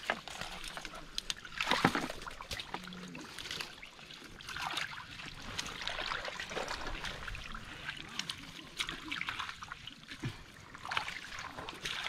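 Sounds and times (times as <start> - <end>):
water and mud sloshing: 0.0 - 12.0.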